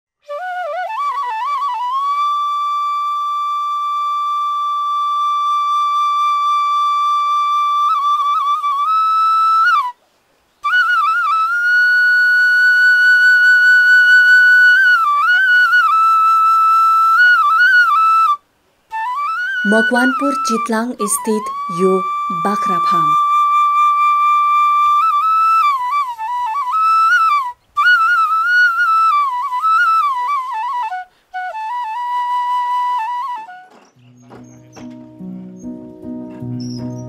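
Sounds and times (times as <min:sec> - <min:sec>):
solo flute melody: 0:00.2 - 0:10.0, 0:10.6 - 0:37.0.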